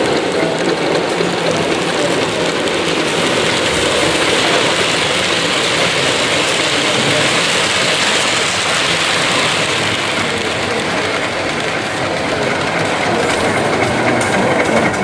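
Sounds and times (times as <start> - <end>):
model train running: 0.0 - 15.0
steady background noise: 0.0 - 15.0.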